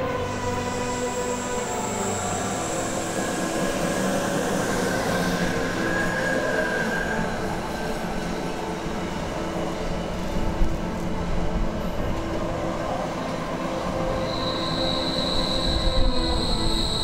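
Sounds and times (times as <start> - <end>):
electric locomotive whine: 0.0 - 17.0
freight train rolling past: 0.0 - 17.0.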